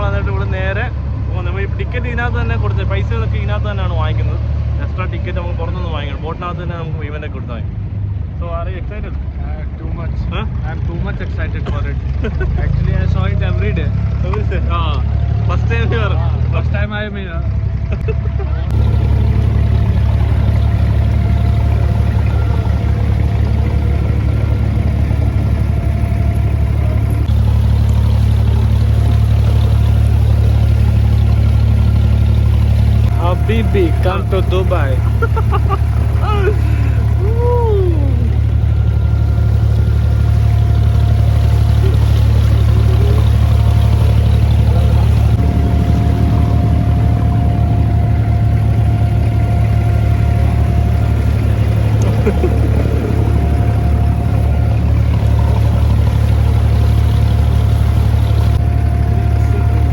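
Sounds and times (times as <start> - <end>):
boat diesel engine humming: 0.0 - 59.9.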